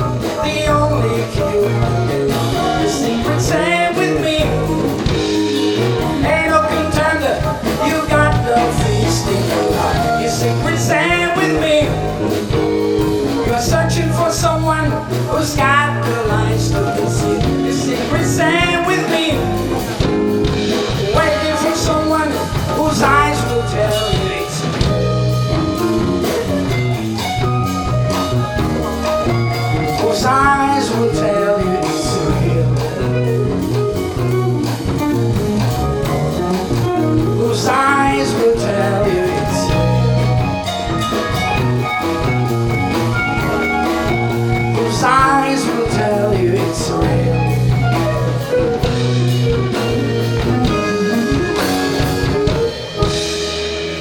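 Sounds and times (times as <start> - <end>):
live band playing jazz-pop: 0.0 - 54.0
sliding lead melody: 0.0 - 54.0
stepping bass line: 0.0 - 54.0.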